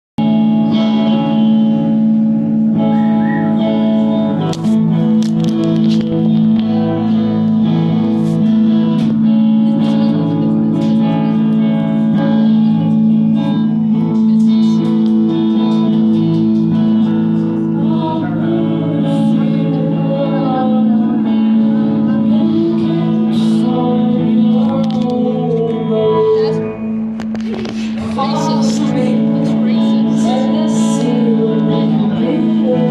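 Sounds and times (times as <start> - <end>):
live band music led by guitar: 0.2 - 32.9.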